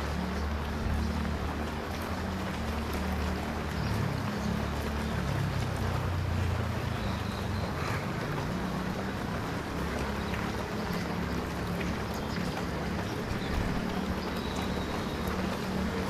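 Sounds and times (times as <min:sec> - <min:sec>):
low engine hum: 0:00.0 - 0:16.0
rain: 0:00.0 - 0:16.0.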